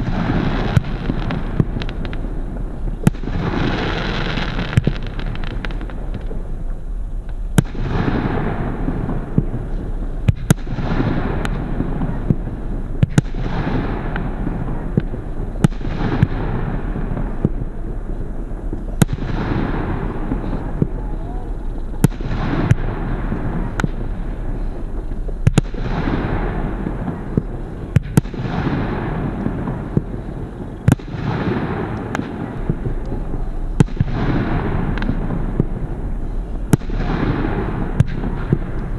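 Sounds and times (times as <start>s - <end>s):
fireworks bangs: 0.0s - 38.9s.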